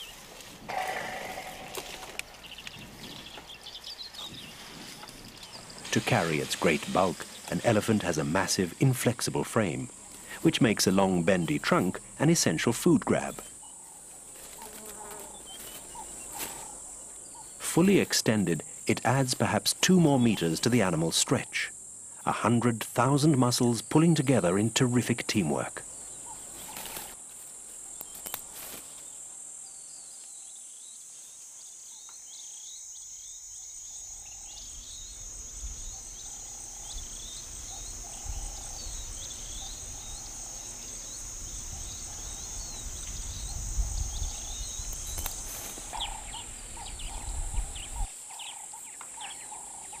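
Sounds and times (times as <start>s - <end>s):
birds chirping: 0.0s - 21.6s, 22.2s - 50.0s
insects droning: 0.0s - 50.0s.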